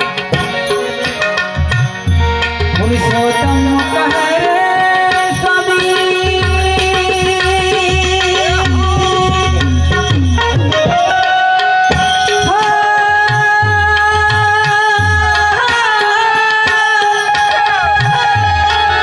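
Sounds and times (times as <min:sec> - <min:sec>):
harmonium playing held notes: 0:00.0 - 0:19.0
tabla drum rhythm: 0:00.0 - 0:19.0.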